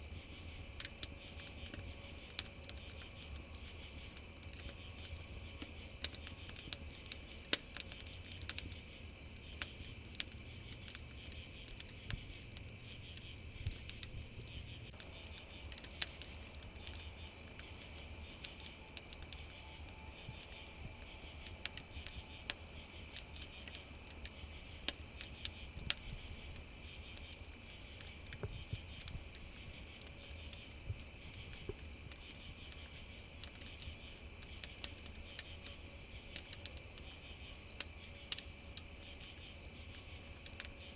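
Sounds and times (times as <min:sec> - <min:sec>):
campfire crackling: 0:00.0 - 0:40.9
crickets chirring: 0:00.0 - 0:40.9.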